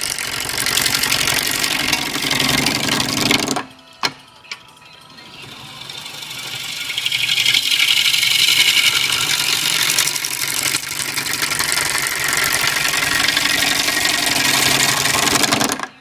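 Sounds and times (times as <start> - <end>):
lathe tool cutting wood: 0.0 - 3.7, 5.2 - 15.9.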